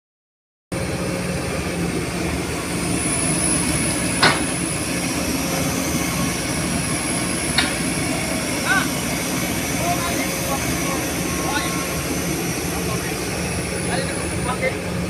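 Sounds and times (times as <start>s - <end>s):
excavator diesel engine running: 0.7s - 15.0s
high steady whine: 0.8s - 15.0s.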